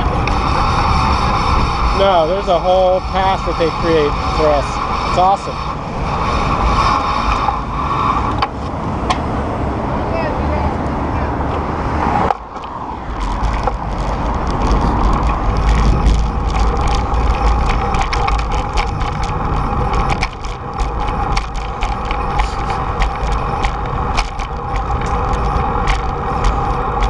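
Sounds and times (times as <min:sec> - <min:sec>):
bike rattles and clicks: 0:00.0 - 0:09.3, 0:11.5 - 0:27.0
wind rumbling on microphone: 0:00.0 - 0:27.0.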